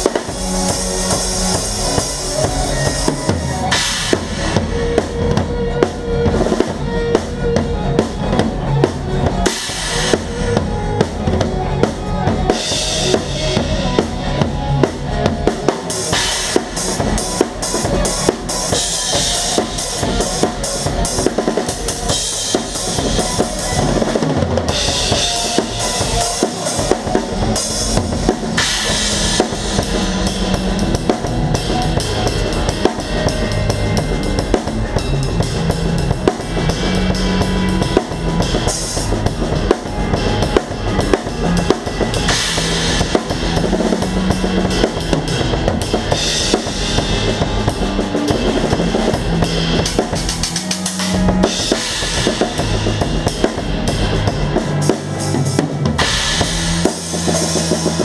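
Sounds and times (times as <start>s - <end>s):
rock drum kit playing: 0.0s - 58.0s.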